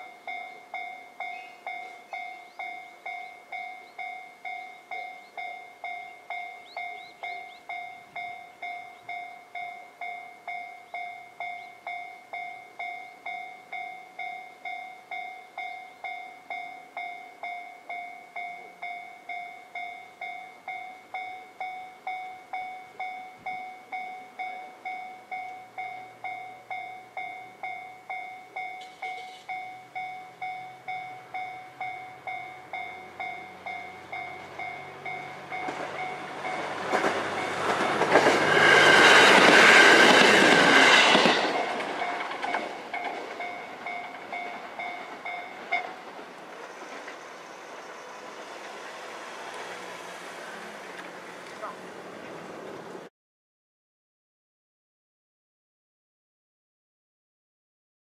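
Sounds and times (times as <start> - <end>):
level crossing warning bell: 0.0 - 50.2
diesel railcar passing: 0.0 - 53.1.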